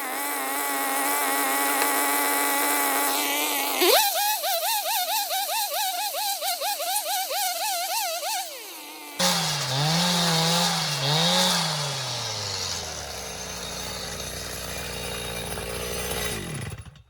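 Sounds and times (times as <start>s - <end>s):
chainsaw revving and idling: 0.0s - 17.0s.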